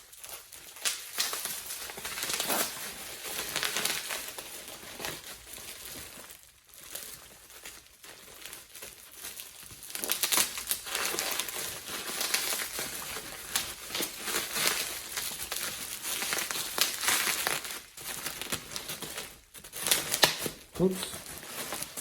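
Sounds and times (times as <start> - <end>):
packaging crinkling and rustling: 0.0 - 22.0.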